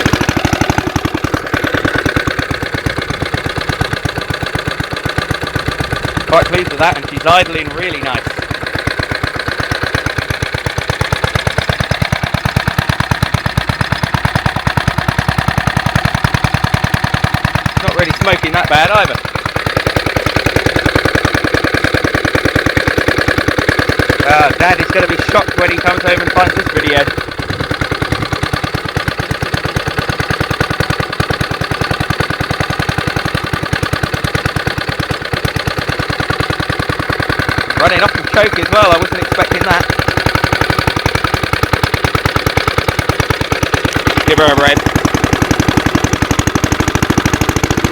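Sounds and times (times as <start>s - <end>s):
small engine idling: 0.0s - 47.9s.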